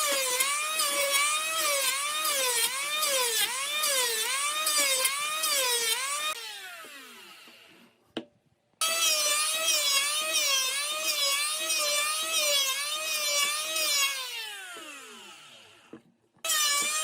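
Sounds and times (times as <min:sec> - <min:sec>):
electric power tool whining: 0:00.0 - 0:07.9, 0:08.8 - 0:17.0.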